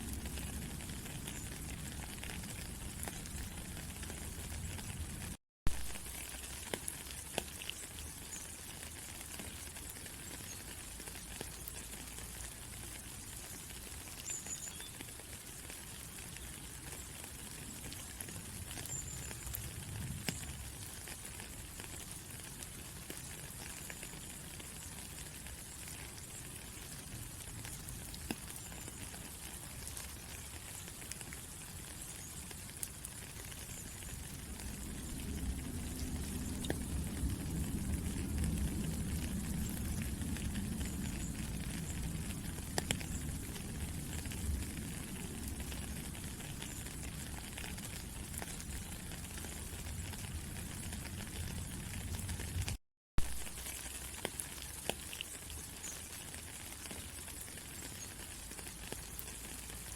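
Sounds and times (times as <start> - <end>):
rain drops ticking: 0.0 - 59.9
steady rain falling: 0.0 - 59.9.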